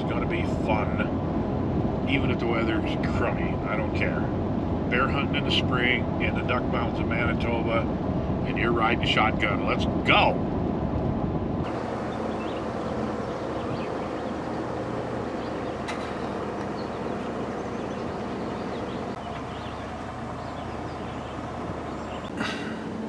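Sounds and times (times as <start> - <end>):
vehicle road noise rumbling: 0.0 - 23.0.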